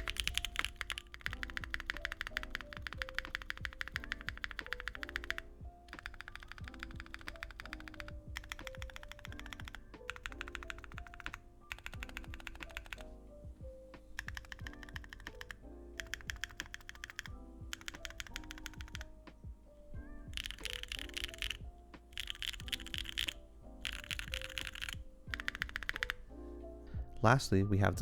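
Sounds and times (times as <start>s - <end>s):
fast typing on a keyboard: 0.0s - 19.4s, 20.0s - 26.4s.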